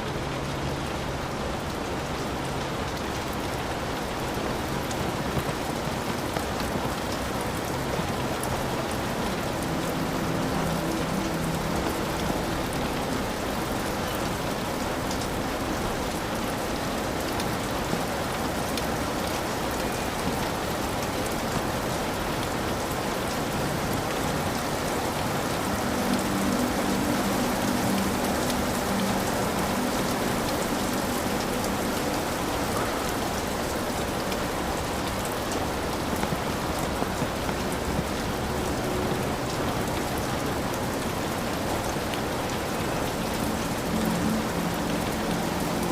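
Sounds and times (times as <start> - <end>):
heavy rain on a roof: 0.0 - 45.9.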